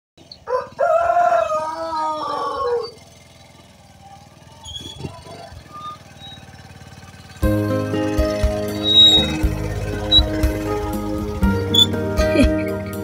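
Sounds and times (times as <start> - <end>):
drawn-out animal calls: 0.2 - 13.0
motorcycle engine running: 0.2 - 13.0.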